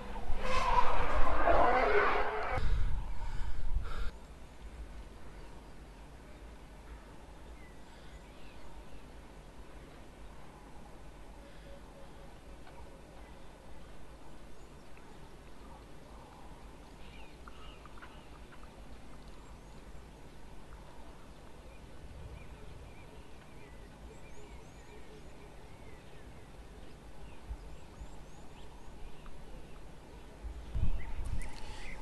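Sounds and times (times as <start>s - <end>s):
low wind rumble: 0.0s - 12.6s, 13.2s - 32.0s.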